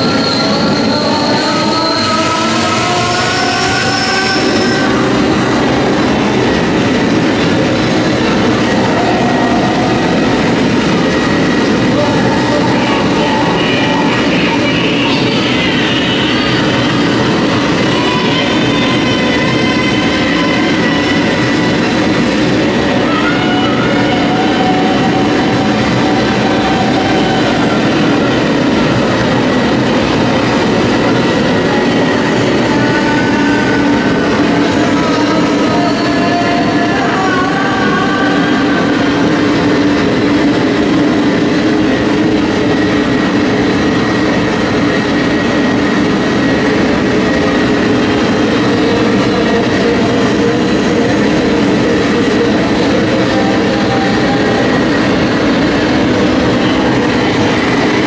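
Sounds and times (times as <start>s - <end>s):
distorted industrial noise and drones: 0.0s - 58.0s.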